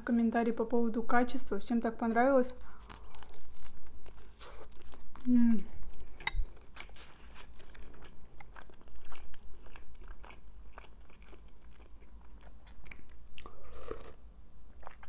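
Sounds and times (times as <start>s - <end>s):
person chewing food: 2.6s - 15.0s.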